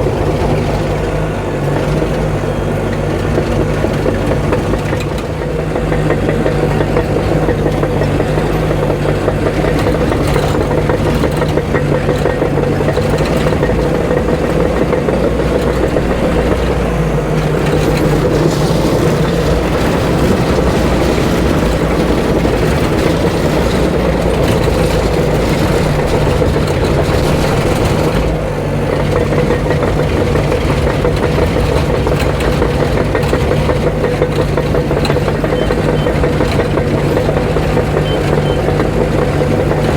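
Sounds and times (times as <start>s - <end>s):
diesel earthmover engine running: 0.0s - 39.9s.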